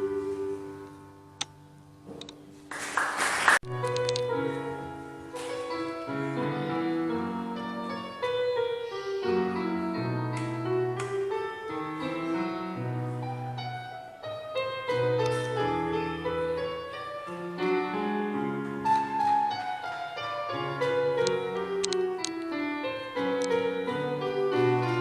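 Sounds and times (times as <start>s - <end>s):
slow classical piano: 0.0s - 25.0s.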